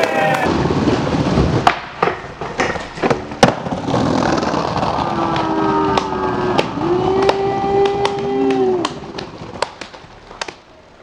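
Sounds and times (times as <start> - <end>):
skateboard clacks: 0.0 - 10.7
skateboard wheels rolling on tiles: 0.0 - 11.0.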